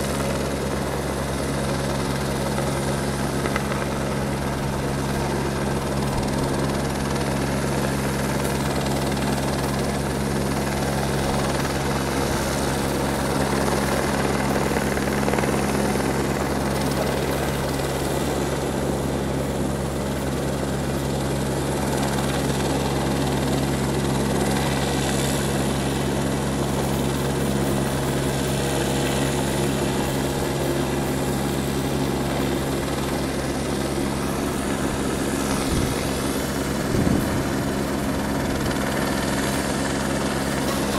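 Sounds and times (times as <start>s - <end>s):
helicopter rotor drone: 0.0s - 40.9s.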